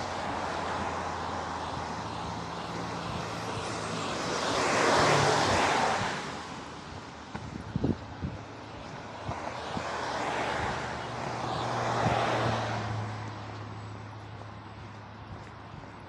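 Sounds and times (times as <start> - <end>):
car passing: 0.0 - 16.0
traffic hum: 0.0 - 16.0.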